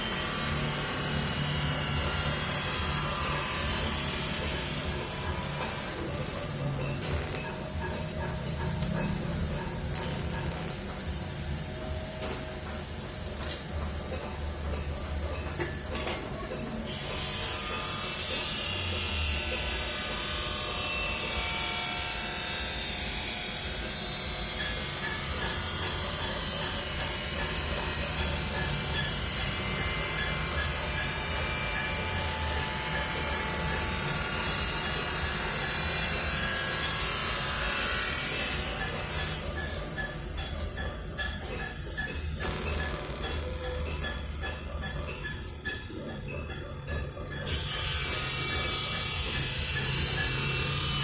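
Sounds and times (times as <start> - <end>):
welding arc sizzling: 0.0 - 40.5, 47.5 - 51.0.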